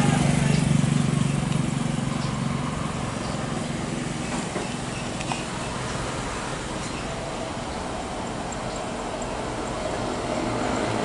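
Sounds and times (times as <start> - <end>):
jet engines rumbling at take-off: 0.0 - 11.0.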